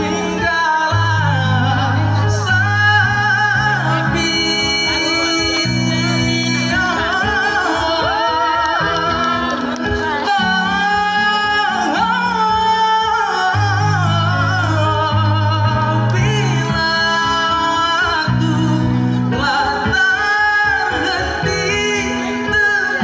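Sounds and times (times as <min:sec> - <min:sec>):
live band with guitar: 0:00.0 - 0:23.0
man singing into a microphone: 0:00.0 - 0:23.0.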